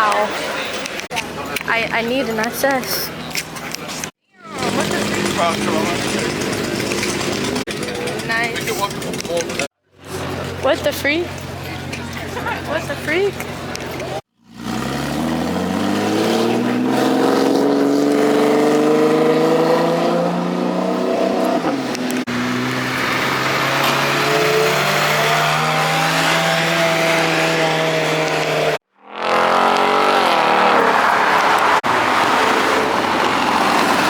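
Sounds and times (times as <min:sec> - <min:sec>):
car engines accelerating: 0:00.0 - 0:34.0.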